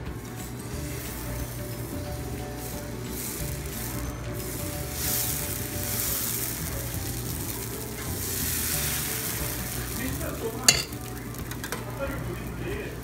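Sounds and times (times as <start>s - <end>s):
batter sizzling on a hot pan: 0.0s - 13.0s.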